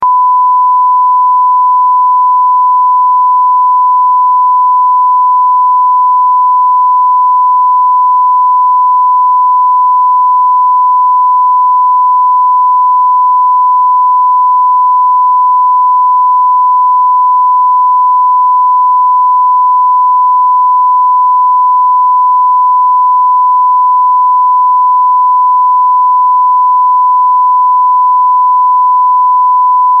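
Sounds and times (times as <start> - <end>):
censor bleep tone: 0.0 - 30.0.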